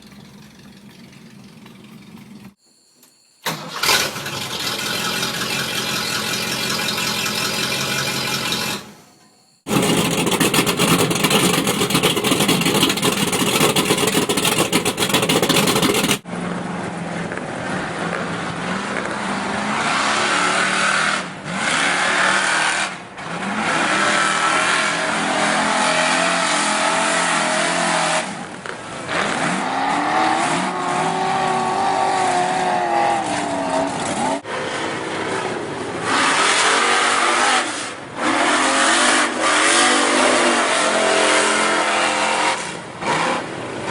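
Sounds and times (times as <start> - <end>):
truck engine revving: 3.5 - 9.0, 9.7 - 16.3, 17.6 - 43.9.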